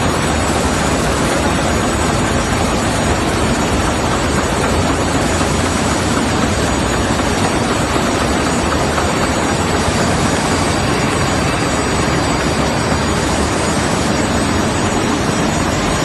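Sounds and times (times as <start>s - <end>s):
machine running mechanical din: 0.0s - 16.0s.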